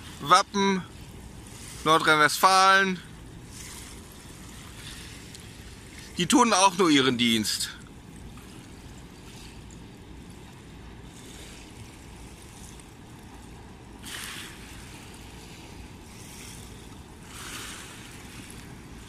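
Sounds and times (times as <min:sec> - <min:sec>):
water lapping at bank: 0:00.0 - 0:19.0.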